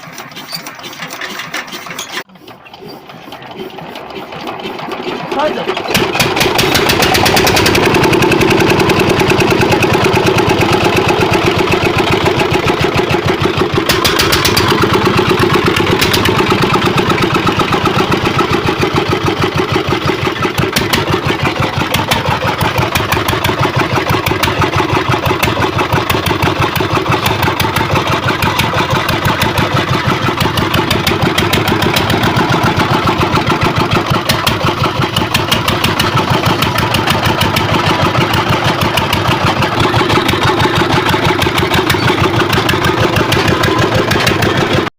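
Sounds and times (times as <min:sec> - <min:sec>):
old diesel engine running: 0:00.0 - 0:44.9.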